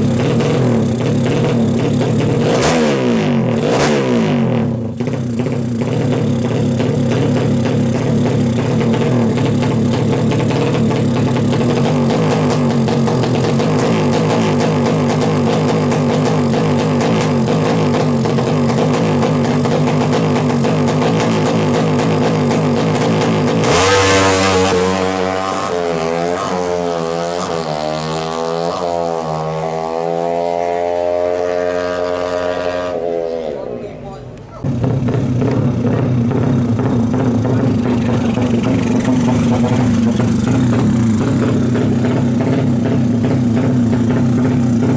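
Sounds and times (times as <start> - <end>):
single-cylinder engine revving: 0.0 - 44.9.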